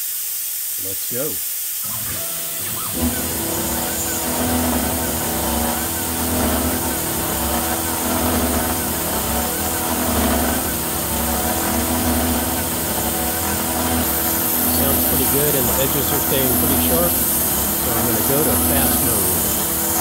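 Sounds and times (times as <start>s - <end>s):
compressed air hiss: 0.0s - 20.0s
router spindle cutting metal: 1.9s - 20.0s.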